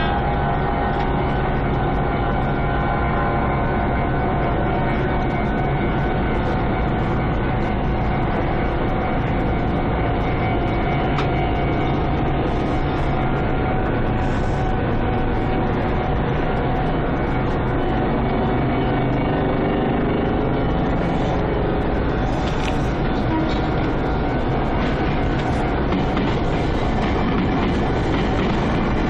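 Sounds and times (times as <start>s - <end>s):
electric train running: 0.0s - 29.0s
thin steady tones: 0.0s - 29.0s.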